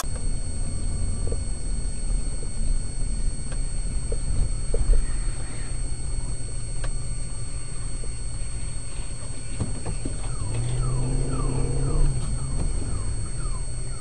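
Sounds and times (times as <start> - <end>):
car engine and road rumble: 0.0 - 14.0
low steady tone: 0.0 - 14.0.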